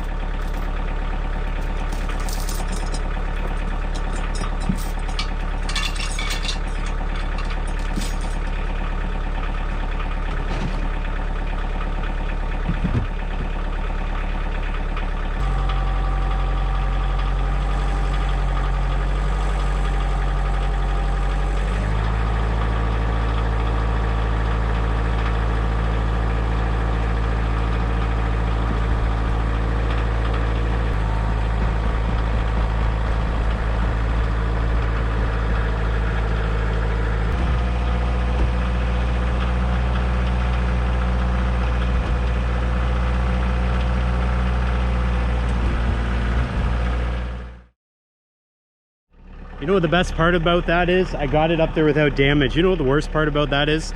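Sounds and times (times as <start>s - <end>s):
tractor diesel engine running: 0.0s - 47.7s, 49.1s - 53.9s.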